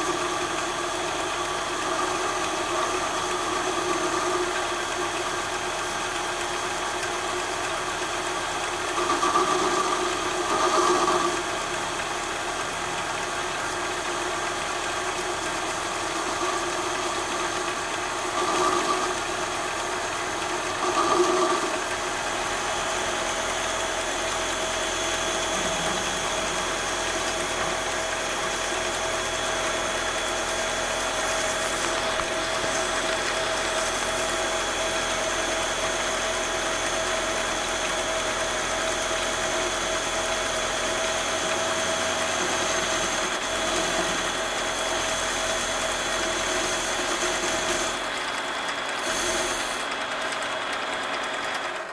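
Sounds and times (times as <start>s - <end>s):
metal lathe whining: 0.0s - 51.9s.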